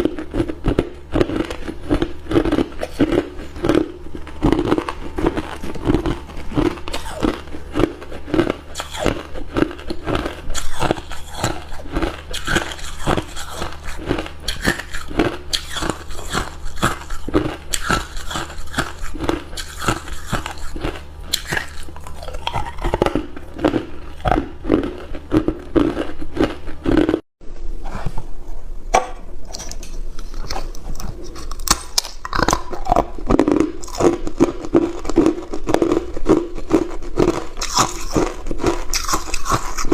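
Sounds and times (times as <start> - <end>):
ice cubes being chewed: 0.0 - 27.2, 30.2 - 39.9.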